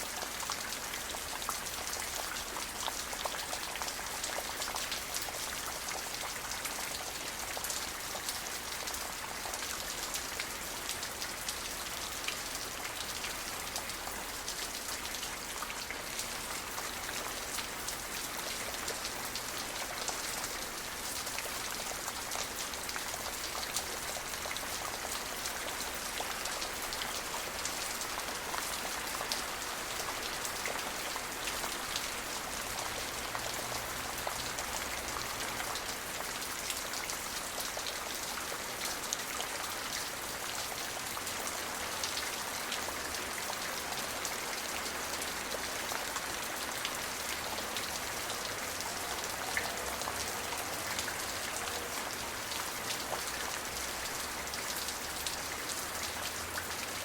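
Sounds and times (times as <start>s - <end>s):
rain drops pattering: 0.0s - 57.0s.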